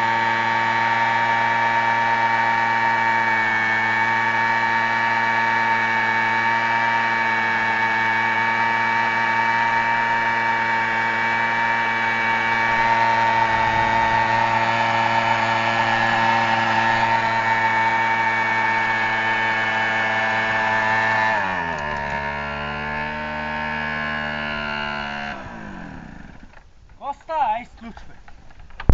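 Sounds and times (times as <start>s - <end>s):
motorcycle engine revving: 0.0s - 26.6s.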